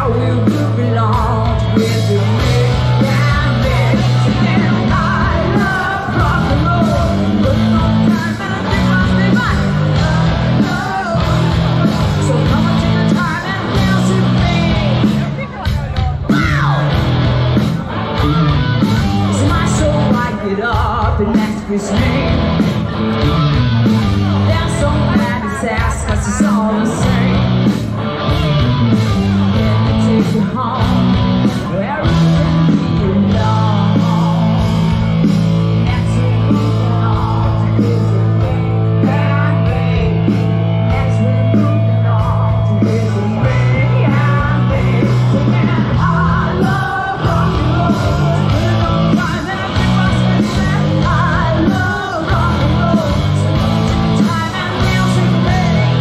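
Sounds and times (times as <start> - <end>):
bass holding long low notes: 0.0 - 15.4, 16.4 - 20.3, 22.0 - 25.6, 26.9 - 56.0
live rock band playing: 0.0 - 56.0
person singing: 0.0 - 56.0.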